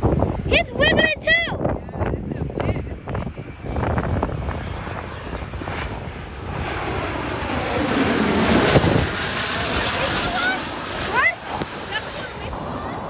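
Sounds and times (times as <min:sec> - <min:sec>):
jet airliner passing by: 0:00.0 - 0:13.0.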